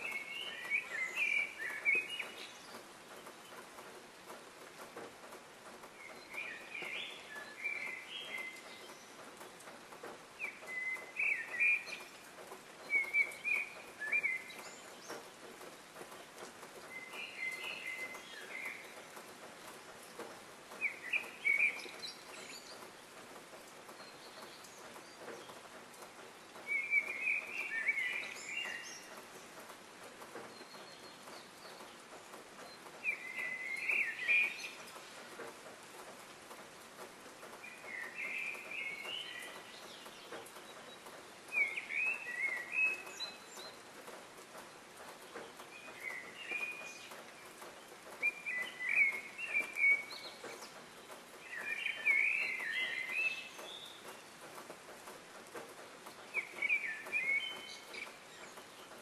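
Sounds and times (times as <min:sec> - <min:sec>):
songbird chirping: 0:00.0 - 0:59.0
steady background hiss: 0:00.0 - 0:59.0.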